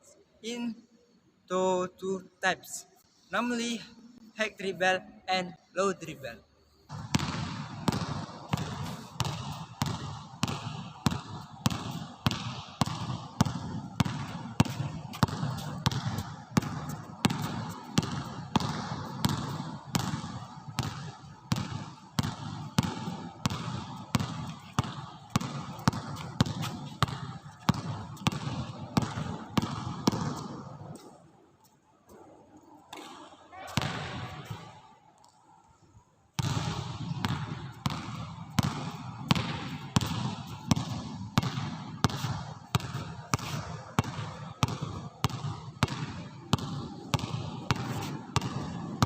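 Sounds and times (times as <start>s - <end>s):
basketball bouncing: 6.9s - 31.1s, 32.9s - 35.4s, 36.3s - 49.0s.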